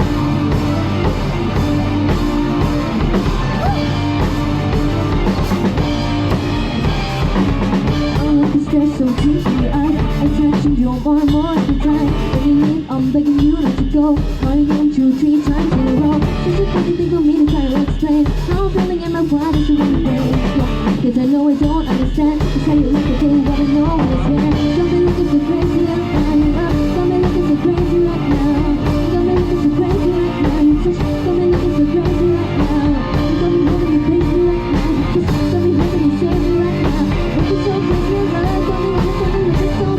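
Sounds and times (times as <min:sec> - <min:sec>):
bass guitar: 0:00.0 - 0:39.9
drum kit: 0:00.0 - 0:39.9
electric guitar: 0:00.0 - 0:39.9
lead singer singing: 0:07.9 - 0:39.9.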